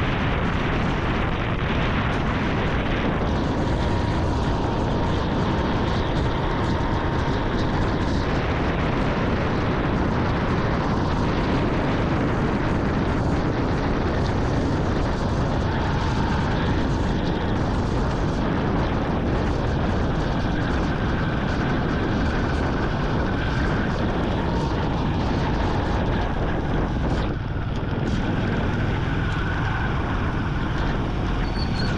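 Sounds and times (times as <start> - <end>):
motorcycle engine running: 0.0 - 31.9
wind and road noise: 0.0 - 31.9.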